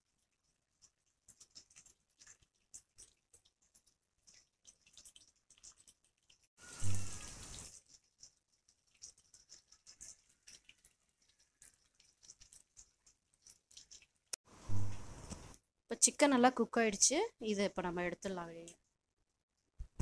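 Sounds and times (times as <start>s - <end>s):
chicken deep-frying in oil: 0.0s - 20.0s.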